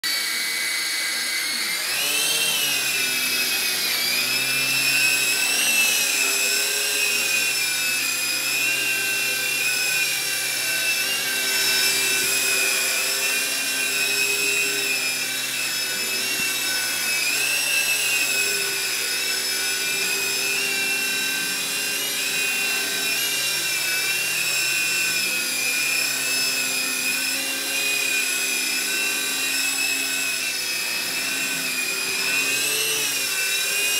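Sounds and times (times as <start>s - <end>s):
toy helicopter motor whine: 0.0s - 33.9s.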